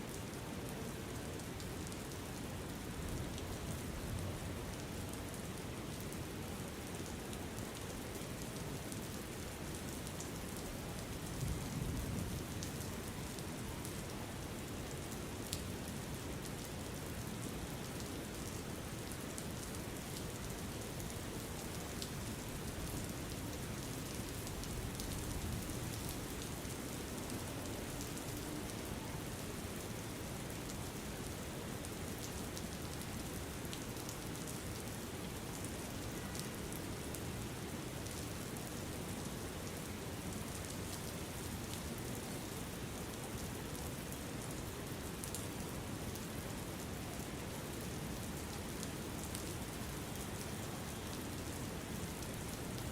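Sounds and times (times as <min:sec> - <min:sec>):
rain hiss: 0:00.2 - 0:52.9.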